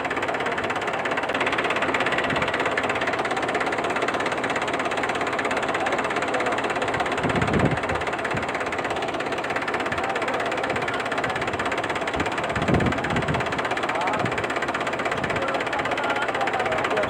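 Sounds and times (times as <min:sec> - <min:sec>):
tractor motor rattling: 0:00.0 - 0:17.0.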